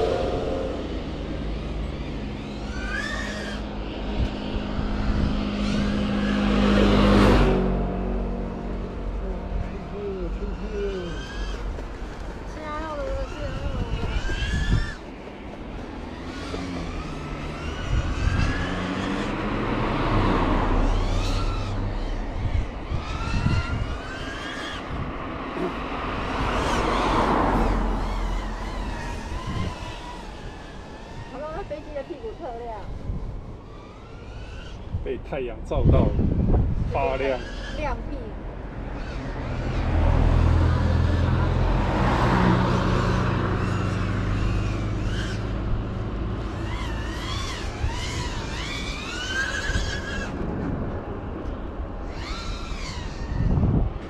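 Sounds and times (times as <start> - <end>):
rushing swell: 0.0 - 13.5, 14.3 - 50.5
quadcopter motors whining: 0.0 - 54.0.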